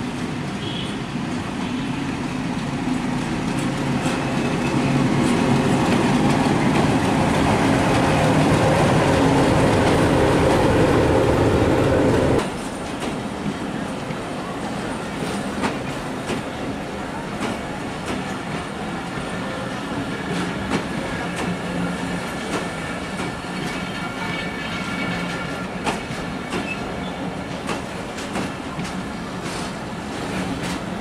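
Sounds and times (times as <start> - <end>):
diesel locomotive engine: 0.0 - 31.0.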